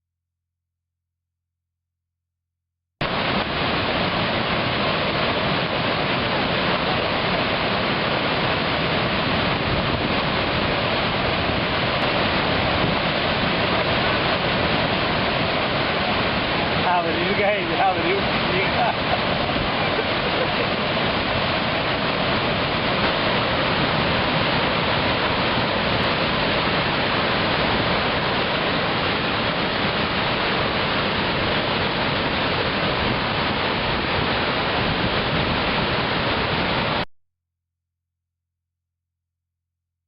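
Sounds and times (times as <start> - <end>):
waterfall rushing: 3.0 - 37.0.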